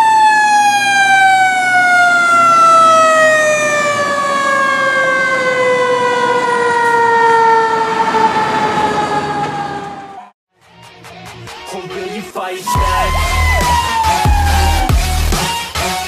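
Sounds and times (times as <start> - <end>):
fire engine siren winding down: 0.0 - 10.4, 12.7 - 15.5.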